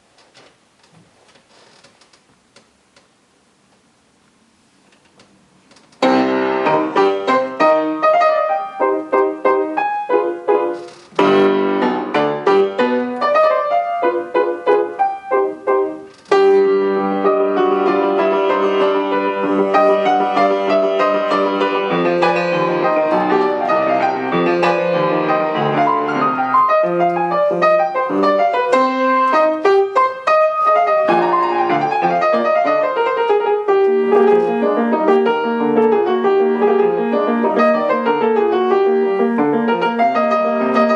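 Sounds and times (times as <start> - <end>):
solo classical piano: 5.4 - 40.9.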